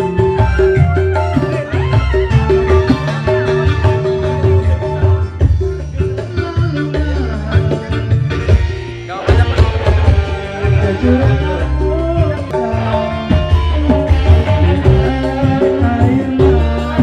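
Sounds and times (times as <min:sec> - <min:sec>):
heavy bass: 0:00.0 - 0:17.0
keyboard: 0:00.0 - 0:17.0
steady drum beat: 0:00.0 - 0:17.0
man singing into a microphone: 0:01.2 - 0:17.0.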